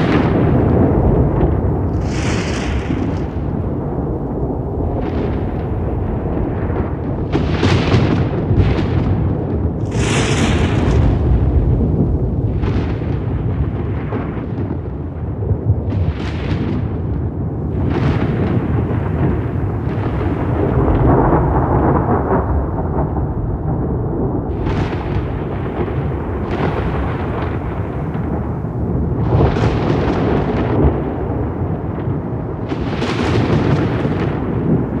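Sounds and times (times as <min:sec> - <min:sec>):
rolling thunder rumble: 0:00.0 - 0:35.0
sharp thunder cracks: 0:00.0 - 0:35.0.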